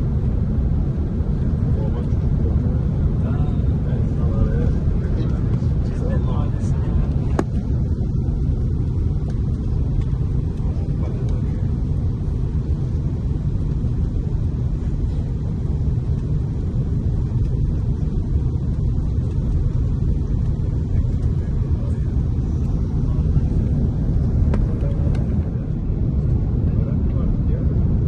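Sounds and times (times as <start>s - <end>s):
airplane cabin engine rumble: 0.0s - 28.0s.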